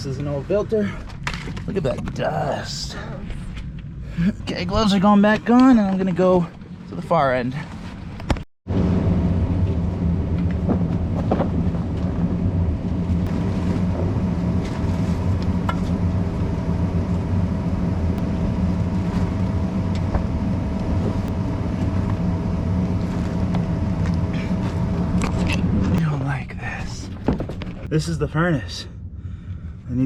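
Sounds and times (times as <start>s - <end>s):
low machine hum with whine: 0.0s - 30.0s.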